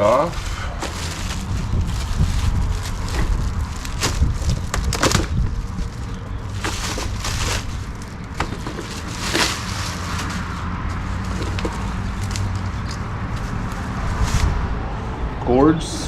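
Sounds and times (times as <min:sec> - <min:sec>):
plastic bag crinkling: 0:00.0 - 0:14.6.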